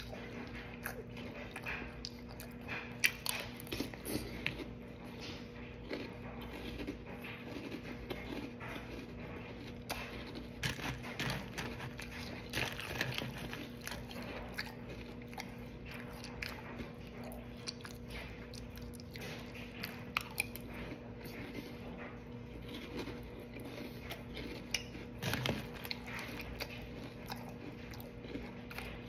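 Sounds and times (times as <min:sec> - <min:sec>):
crunching cereal: 0:00.0 - 0:21.8, 0:22.4 - 0:29.0
faint hum: 0:00.0 - 0:29.0.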